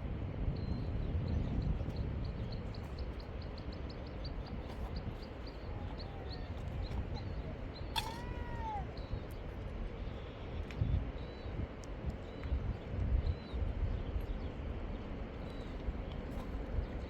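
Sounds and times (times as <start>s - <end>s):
wind noise rumble: 0.0s - 17.0s.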